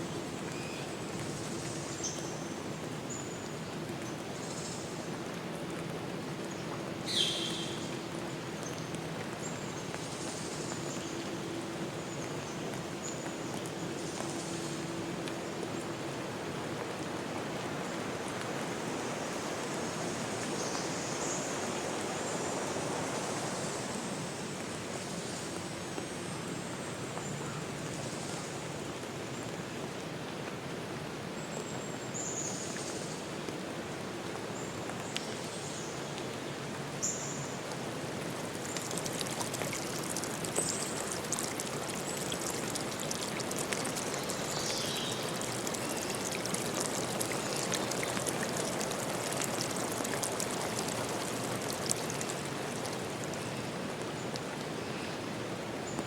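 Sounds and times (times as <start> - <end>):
running water rushing: 0.0 - 26.2, 27.6 - 56.0
rain pattering: 0.0 - 56.0.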